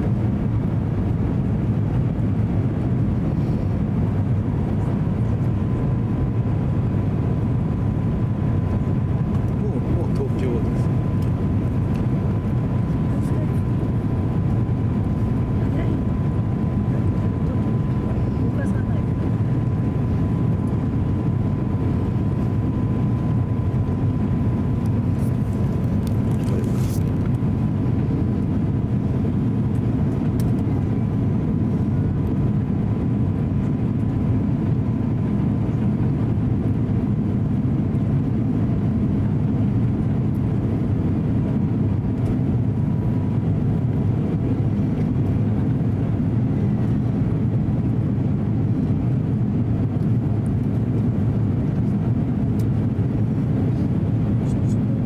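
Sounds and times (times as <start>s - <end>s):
aircraft engines rumbling: 0.0s - 55.0s
airflow over airframe: 0.0s - 55.0s.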